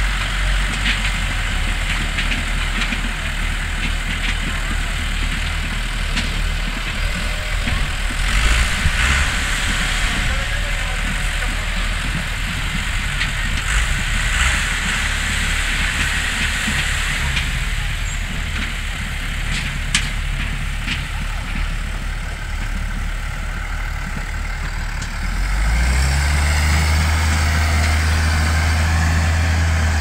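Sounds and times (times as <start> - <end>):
tractor engines droning: 0.0 - 30.0.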